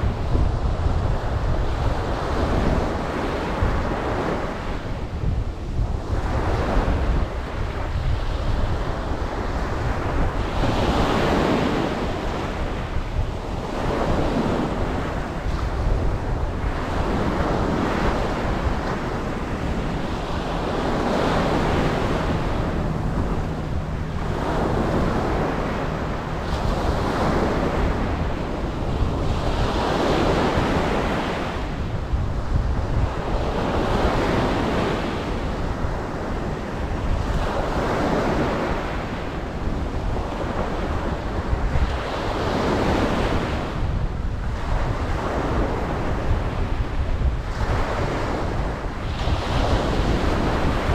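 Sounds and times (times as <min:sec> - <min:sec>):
ocean surf breaking: 0:00.0 - 0:43.9
wind rumble on microphone: 0:00.0 - 0:50.9.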